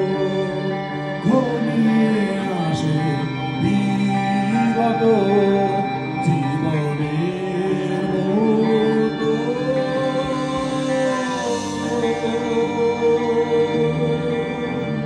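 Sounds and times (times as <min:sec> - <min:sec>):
rock band playing live: 0:00.0 - 0:15.0
singer holding a long note: 0:00.0 - 0:15.0.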